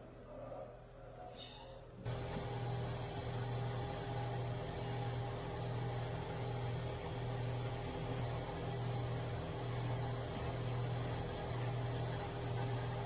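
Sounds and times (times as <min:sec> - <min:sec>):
low motor hum: 0:02.1 - 0:13.0.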